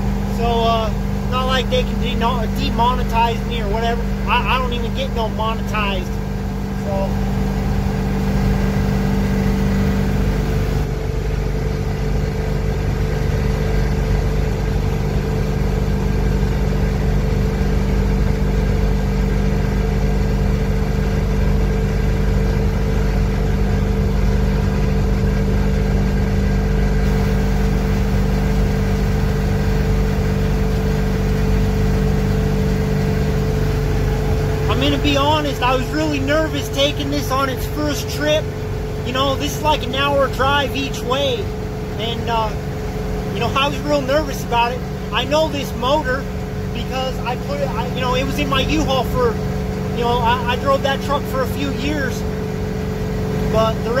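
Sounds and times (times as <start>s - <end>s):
diesel truck engine drone: 0.0s - 54.0s
road rumble: 0.0s - 54.0s.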